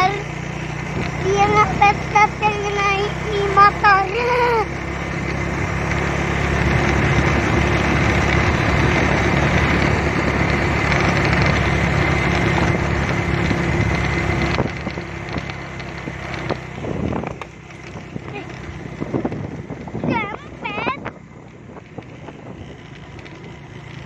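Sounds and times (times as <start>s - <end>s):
rushing wind and road noise: 0.0s - 24.0s
small motorcycle engine running: 0.0s - 24.0s.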